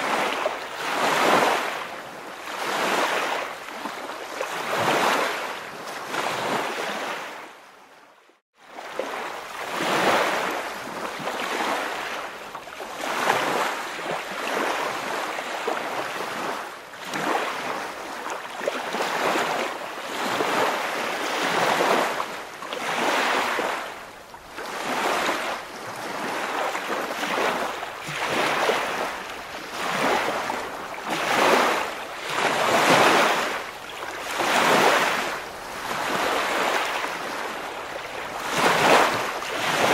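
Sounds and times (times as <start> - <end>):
waves washing: 0.0 - 7.4, 8.7 - 39.9.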